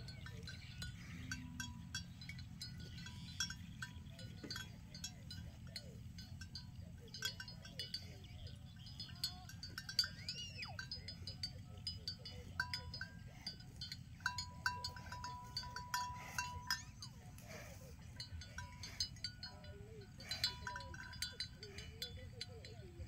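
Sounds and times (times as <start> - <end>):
small metal bell clinking: 0.0 - 23.0
steady low rumble: 0.0 - 23.0.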